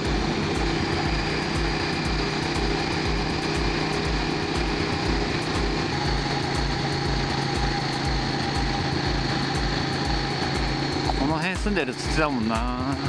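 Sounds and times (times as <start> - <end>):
motorcycle engine running: 0.0 - 13.0
riding wind noise: 0.0 - 13.0.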